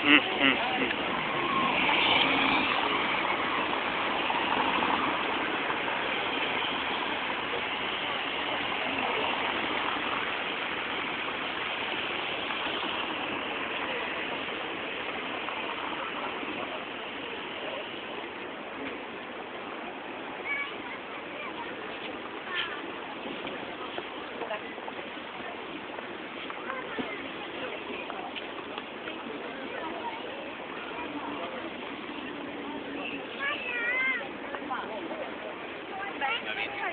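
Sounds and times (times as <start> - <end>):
passing road traffic: 0.0 - 36.9.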